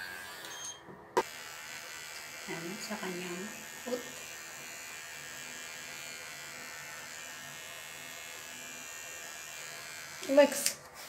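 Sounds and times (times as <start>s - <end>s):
pet clipper buzzing: 1.2s - 10.8s.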